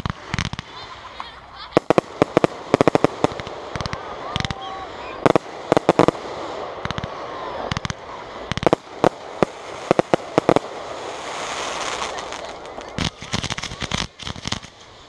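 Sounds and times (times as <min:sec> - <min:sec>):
fireworks bursting: 0:00.0 - 0:15.0
steady hiss: 0:00.0 - 0:15.0.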